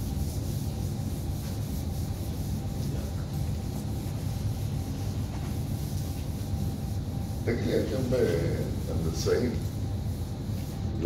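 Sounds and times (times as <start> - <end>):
eraser rubbing whiteboard: 0.0 - 11.0.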